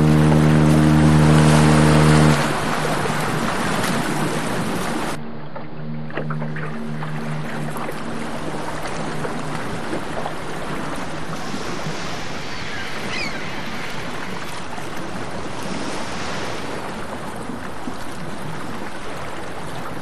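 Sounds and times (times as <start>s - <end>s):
steady rushing noise: 0.0s - 17.8s.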